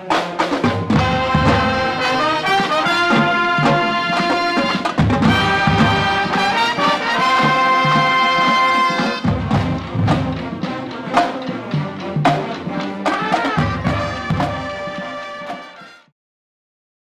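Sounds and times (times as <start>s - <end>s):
brass chords: 0.0s - 16.1s
sharp percussive hits: 0.1s - 15.8s.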